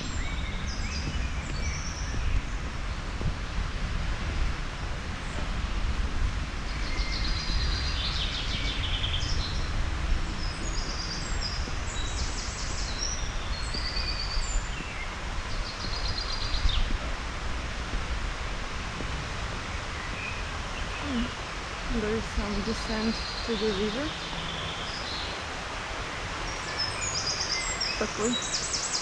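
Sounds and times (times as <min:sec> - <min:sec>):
small songbirds chirping: 0:00.0 - 0:03.6, 0:06.6 - 0:17.1, 0:19.6 - 0:29.0
low outdoor rumble: 0:00.0 - 0:27.2.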